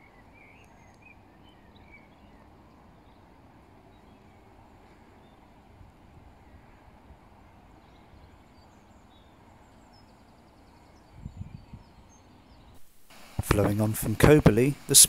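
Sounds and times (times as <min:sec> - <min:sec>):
distant birds chirping: 0:00.0 - 0:15.0.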